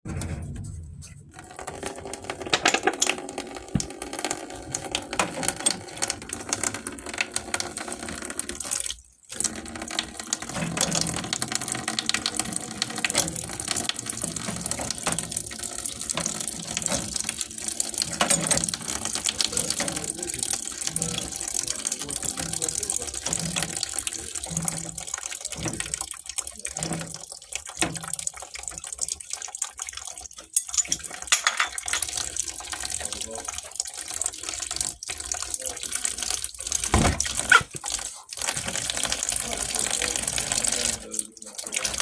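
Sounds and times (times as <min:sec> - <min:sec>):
water running: 0:01.2 - 0:42.0.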